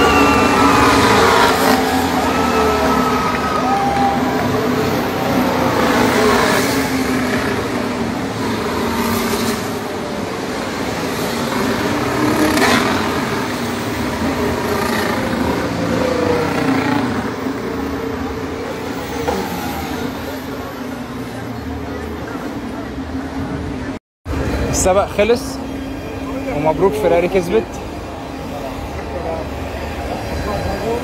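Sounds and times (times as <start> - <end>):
racing cars passing by: 0.0 - 31.0.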